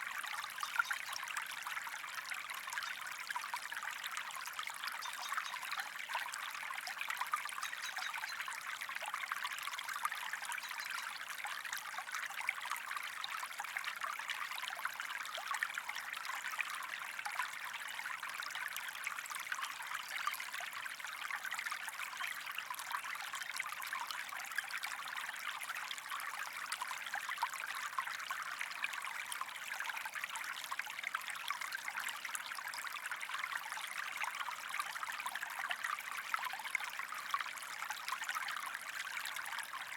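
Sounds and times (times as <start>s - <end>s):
stream trickling and bubbling: 0.0s - 39.9s.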